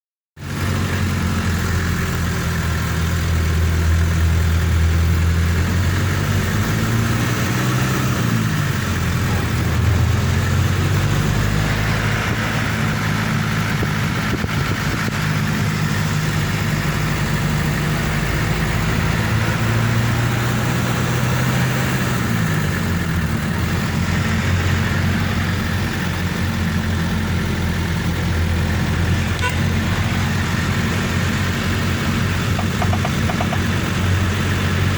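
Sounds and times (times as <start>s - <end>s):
road and wind noise: 0.4s - 34.9s
vehicle engine running: 0.4s - 34.9s.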